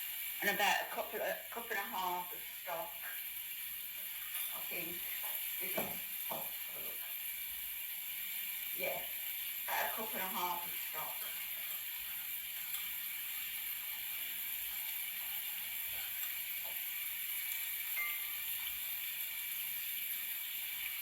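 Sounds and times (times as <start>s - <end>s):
onions sizzling in a pan: 0.0s - 21.0s.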